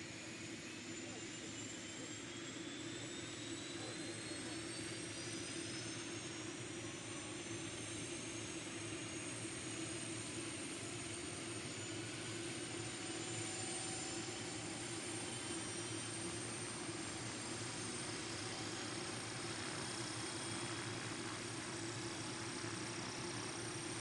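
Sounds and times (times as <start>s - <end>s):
helicopter engine starting whine: 0.0s - 24.0s.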